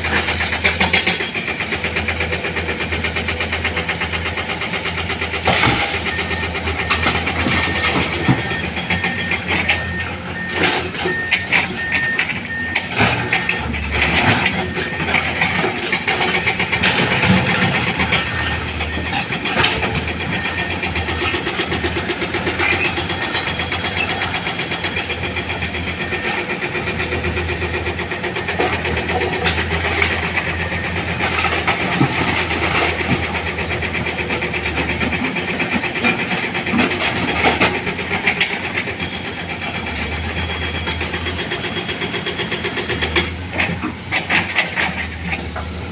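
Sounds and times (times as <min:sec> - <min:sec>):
diesel machinery running: 0:00.0 - 0:45.9.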